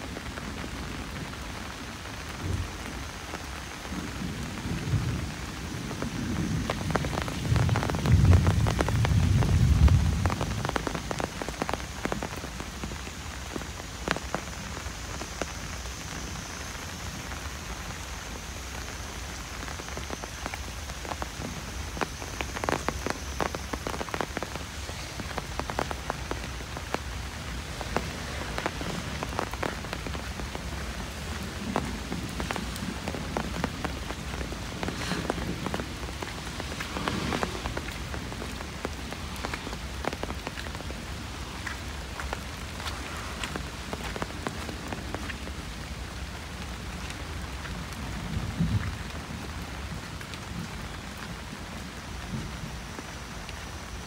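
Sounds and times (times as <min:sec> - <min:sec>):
light rain on foliage: 0:00.0 - 0:54.0
raindrops tapping: 0:00.0 - 0:54.0.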